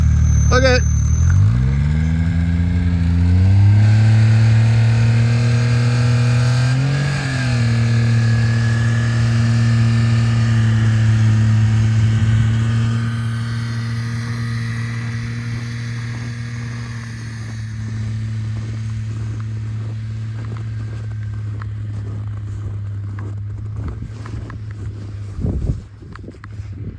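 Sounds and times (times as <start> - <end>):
snowmobile engine revving: 0.0 - 25.8.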